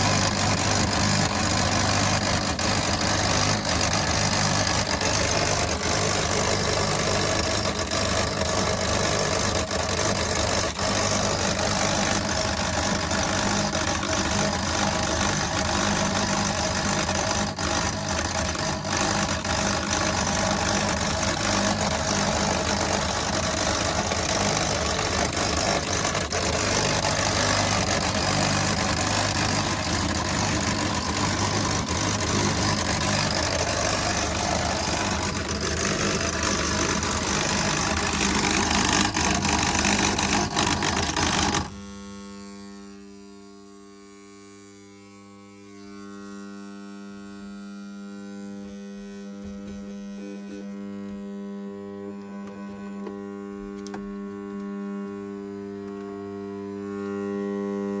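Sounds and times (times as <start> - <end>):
electrical hum and buzz: 0.0 - 58.0.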